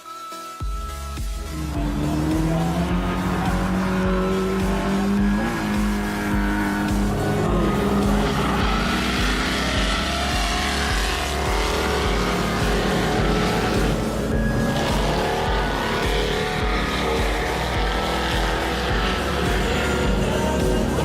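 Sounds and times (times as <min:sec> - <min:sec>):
background music with steady beat: 0:00.0 - 0:21.0
car engines revving: 0:01.4 - 0:21.0.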